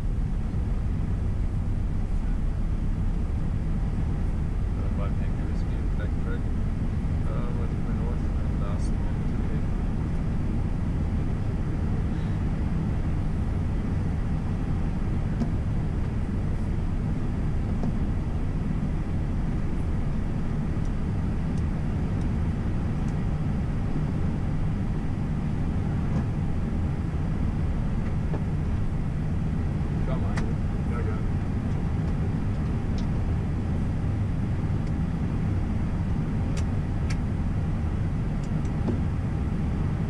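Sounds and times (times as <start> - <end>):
airliner cockpit rumble: 0.0 - 40.0.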